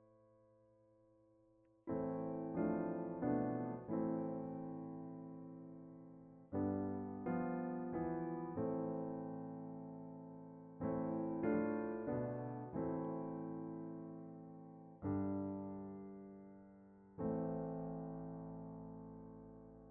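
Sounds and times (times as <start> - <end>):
piano chords ringing: 1.9 - 19.9.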